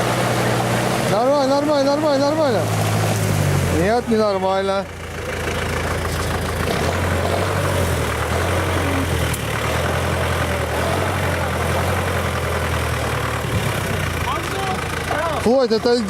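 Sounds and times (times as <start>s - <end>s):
vehicle engine running at low revs: 0.0s - 16.0s.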